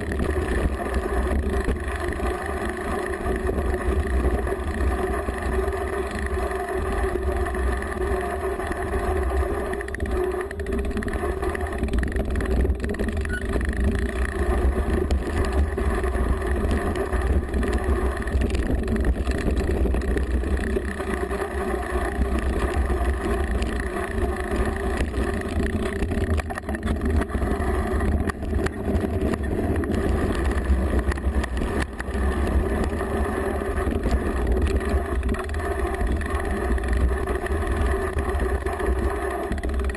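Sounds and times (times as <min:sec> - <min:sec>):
mountain bike rumble and rattle: 0:00.0 - 0:39.9.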